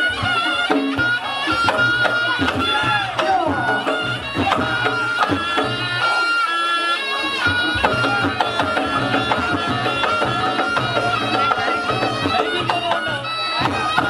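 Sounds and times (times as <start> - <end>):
reedy shawm melody: 0.0 - 14.0
sharp percussion strokes: 0.0 - 14.0.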